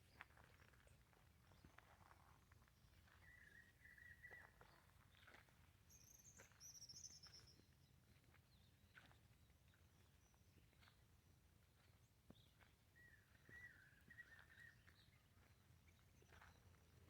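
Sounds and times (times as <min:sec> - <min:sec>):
faint birdsong: 0:02.6 - 0:17.0.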